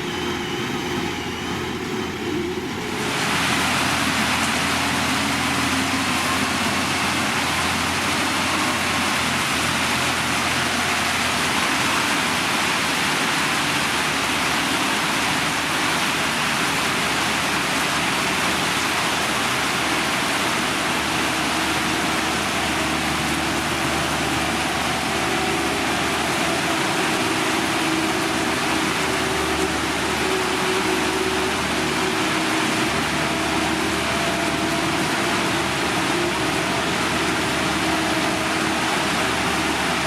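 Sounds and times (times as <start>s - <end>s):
heavy machine engine running: 0.0s - 40.0s.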